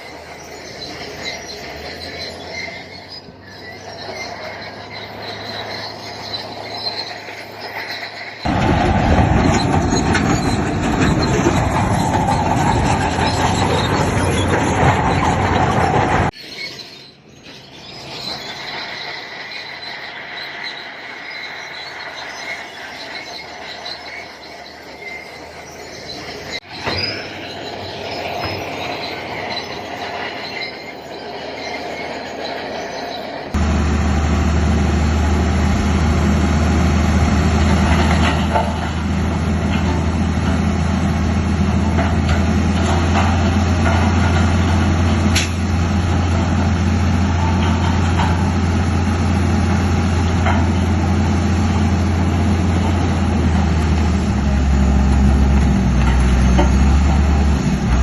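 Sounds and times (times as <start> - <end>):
bulldozer engine running: 0.0 - 58.0
steel tracks squealing: 0.0 - 58.0.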